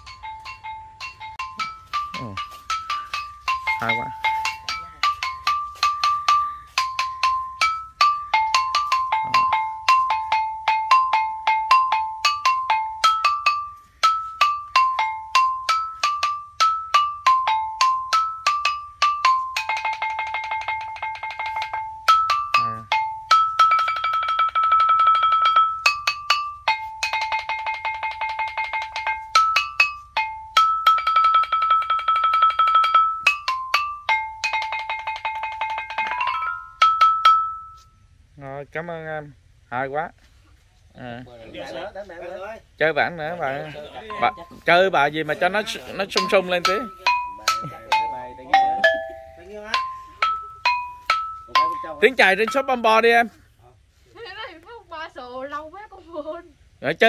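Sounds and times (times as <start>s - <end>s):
wooden xylophone melody: 0.0s - 38.4s, 40.9s - 55.7s.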